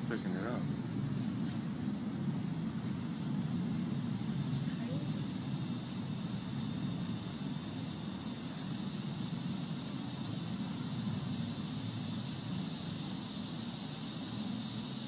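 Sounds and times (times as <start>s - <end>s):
thin steady high tone: 0.0s - 15.0s.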